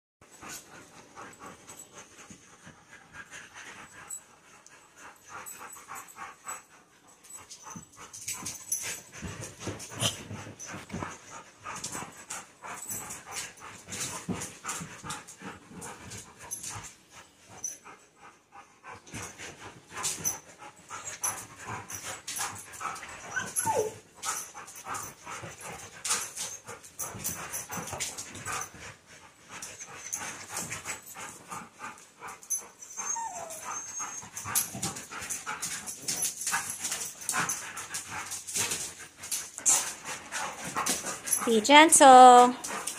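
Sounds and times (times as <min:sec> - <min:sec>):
dogs play-fighting: 0:00.2 - 0:42.9.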